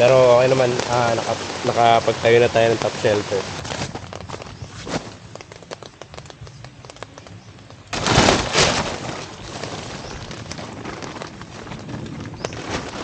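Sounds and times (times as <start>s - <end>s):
tent fabric rustling: 0.0s - 7.2s, 7.8s - 13.0s
raindrops tapping on tarp: 0.0s - 13.0s.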